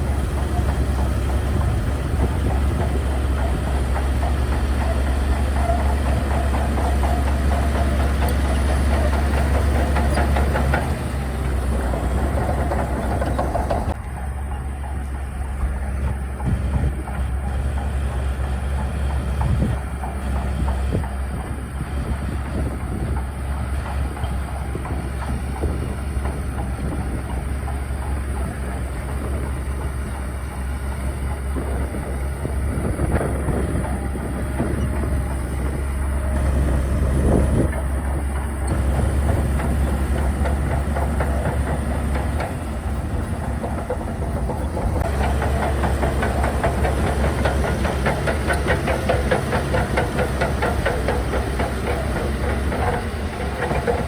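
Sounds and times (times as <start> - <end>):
bulldozer diesel engine running: 0.0 - 54.0
steel tracks clattering: 0.0 - 54.0.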